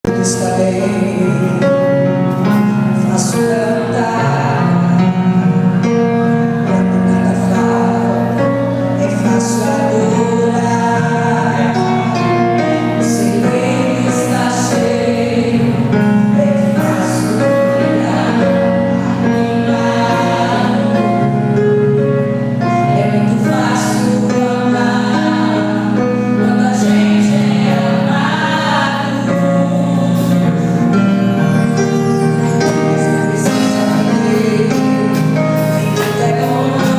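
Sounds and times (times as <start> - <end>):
instrumental accompaniment: 0.0 - 36.9
gospel choir singing: 0.1 - 36.9.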